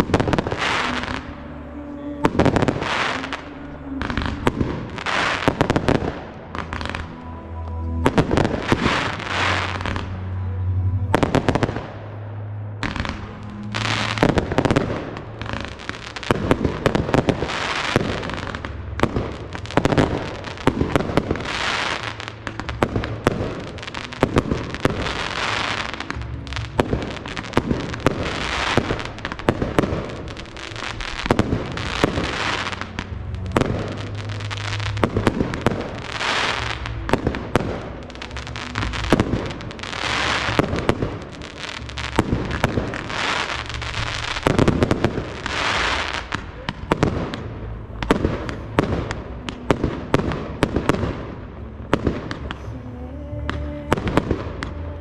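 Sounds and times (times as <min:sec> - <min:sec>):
fireworks crackling and hissing: 0:00.0 - 0:55.0
music playing: 0:00.0 - 0:55.0.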